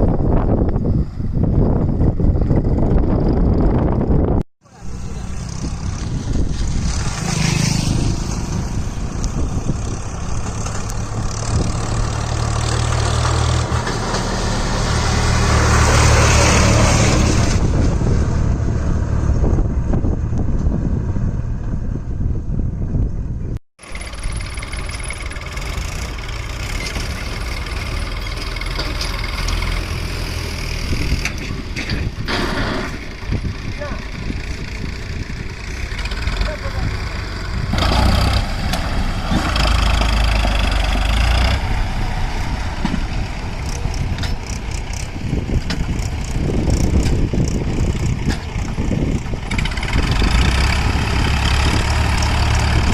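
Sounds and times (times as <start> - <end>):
diesel engines under load: 0.0 - 52.9.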